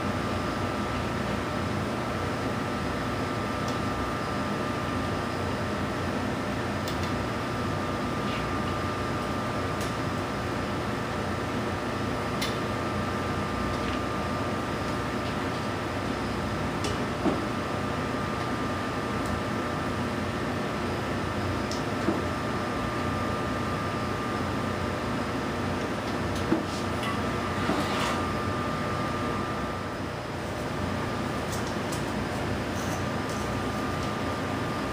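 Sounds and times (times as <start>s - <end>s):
ventilation hum with high whine: 0.0s - 34.9s.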